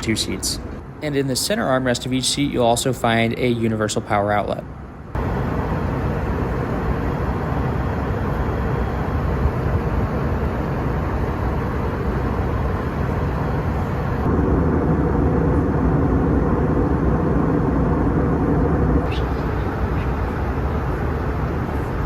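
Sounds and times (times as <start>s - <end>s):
airplane cabin noise: 0.0s - 22.0s.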